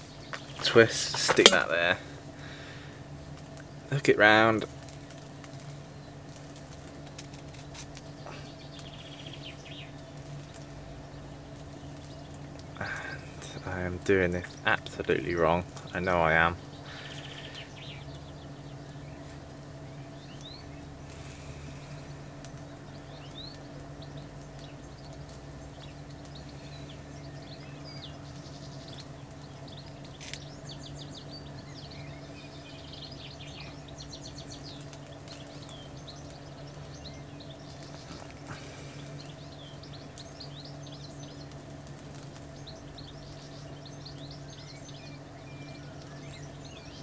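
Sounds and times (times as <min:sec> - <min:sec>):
small birds singing and chirping: 0:00.0 - 0:47.0
steady low hum: 0:00.0 - 0:47.0.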